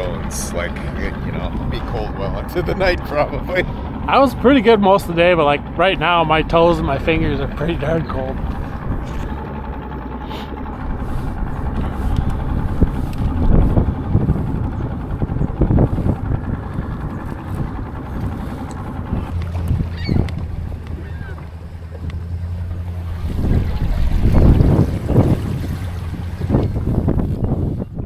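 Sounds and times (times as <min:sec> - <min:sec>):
motorboat engine running: 0:00.0 - 0:28.0
water noise: 0:00.0 - 0:28.0
wind: 0:00.0 - 0:28.0.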